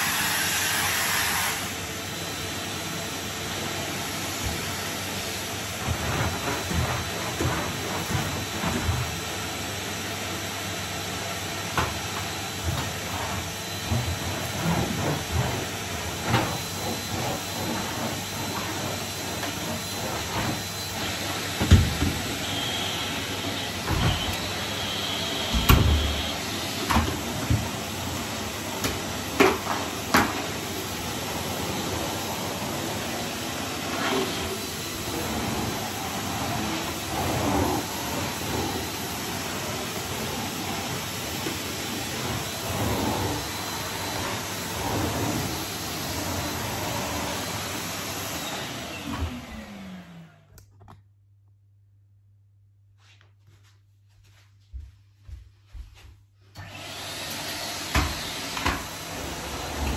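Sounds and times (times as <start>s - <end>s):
vacuum cleaner running: 0.0s - 50.7s, 56.4s - 59.9s.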